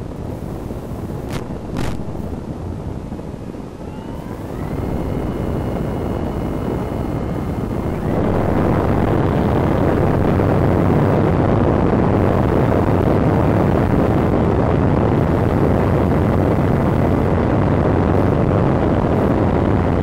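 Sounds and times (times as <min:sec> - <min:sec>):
wind rushing over microphone: 0:00.0 - 0:20.0
electric motor whine: 0:03.4 - 0:20.0.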